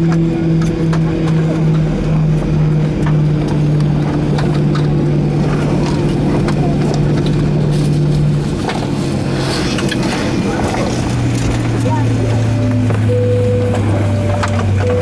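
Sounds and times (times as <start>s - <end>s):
airplane engine hum: 0.0s - 15.0s.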